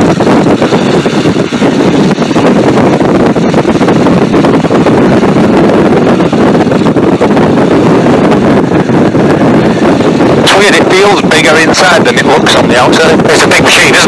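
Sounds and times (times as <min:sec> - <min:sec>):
radial engine and propeller drone: 0:00.0 - 0:14.0.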